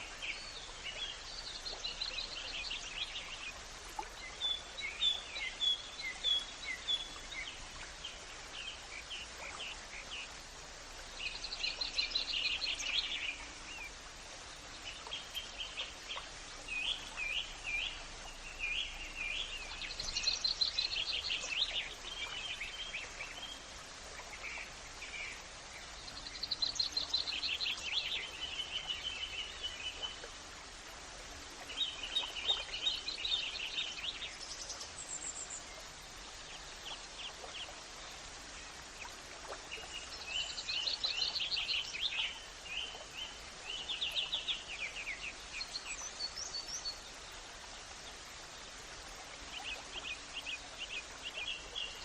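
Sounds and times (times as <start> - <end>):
low background hiss: 0.0 - 52.0.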